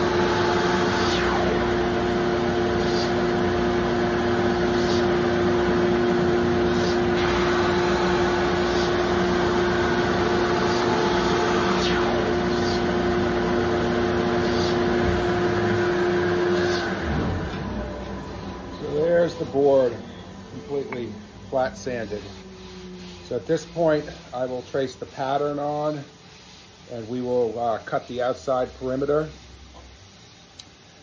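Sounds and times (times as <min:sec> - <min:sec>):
belt sander humming: 0:00.0 - 0:30.0.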